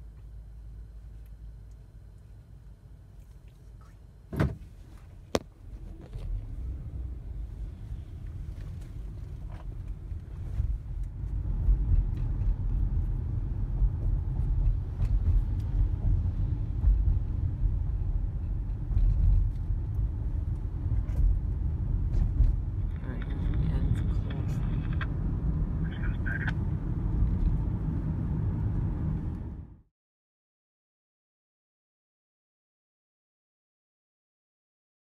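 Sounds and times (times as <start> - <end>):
car rumble from inside cabin: 0.0 - 29.8.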